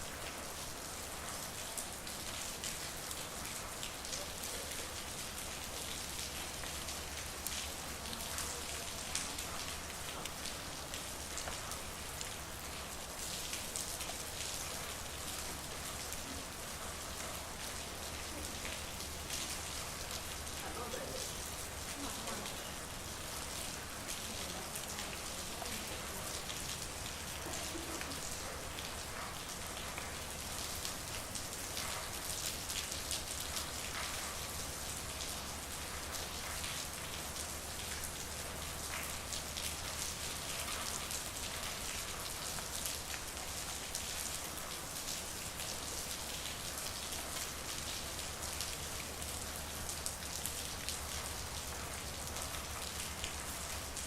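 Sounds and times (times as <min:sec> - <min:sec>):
rain pattering on hard surfaces: 0:00.0 - 0:54.0.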